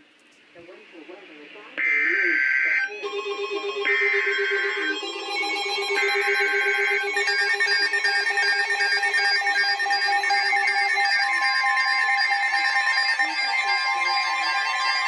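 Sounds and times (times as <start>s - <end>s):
electronic data burst screeching: 1.8s - 15.0s
pulsing electronic alert beep: 1.8s - 15.0s.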